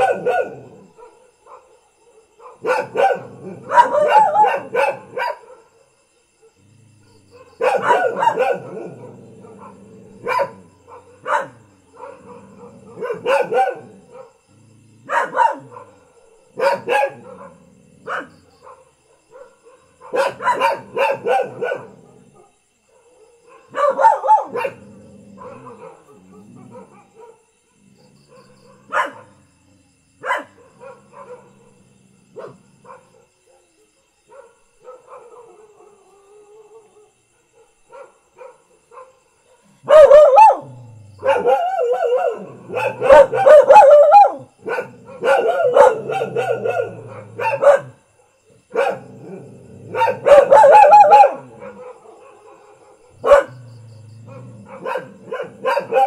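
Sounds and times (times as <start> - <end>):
dogs barking: 0.0 - 6.5, 7.1 - 14.4, 15.0 - 29.6, 30.2 - 36.1, 36.7 - 56.0.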